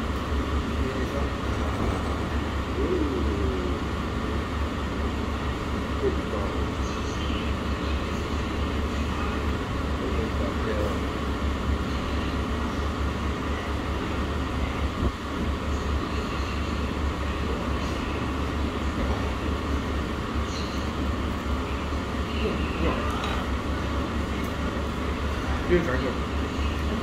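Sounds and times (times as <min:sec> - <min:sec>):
restaurant dining room hum: 0:00.0 - 0:27.0.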